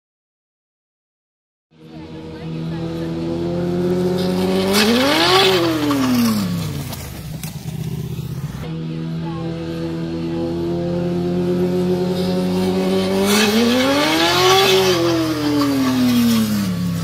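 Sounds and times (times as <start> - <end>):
motorcycle engine revving: 1.7 - 17.0
motorcycle scraping on asphalt: 1.8 - 17.0.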